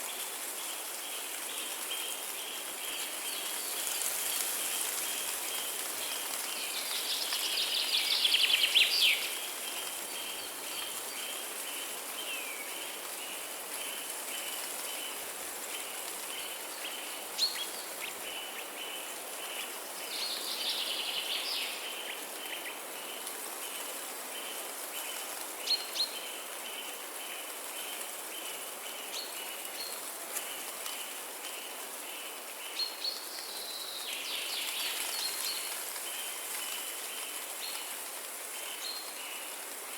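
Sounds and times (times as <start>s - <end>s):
rain and wind hiss: 0.0s - 39.9s.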